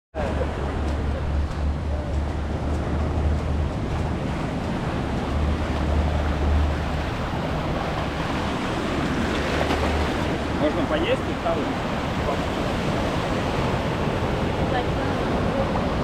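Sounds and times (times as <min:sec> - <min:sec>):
sea waves washing on shore: 0:00.2 - 0:16.0
wind buffeting microphone: 0:00.6 - 0:16.0.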